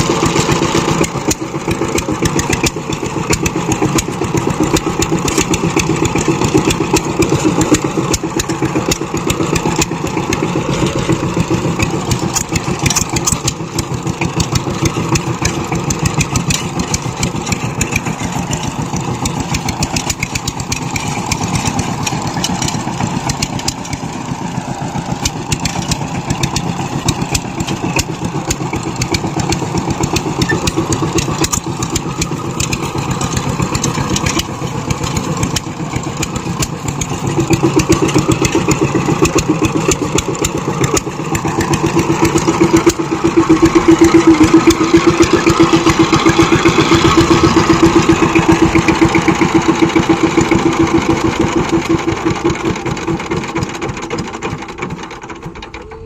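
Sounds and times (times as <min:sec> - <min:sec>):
power tiller engine running: 0:00.0 - 0:56.0.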